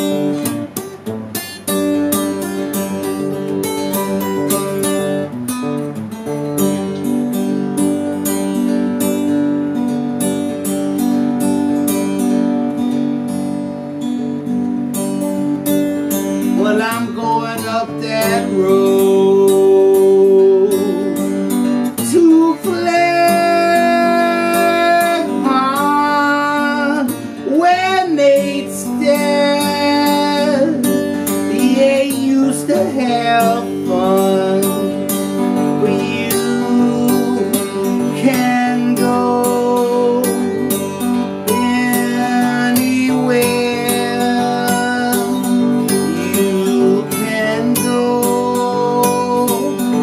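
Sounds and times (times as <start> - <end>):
acoustic guitar strummed: 0.0 - 50.0.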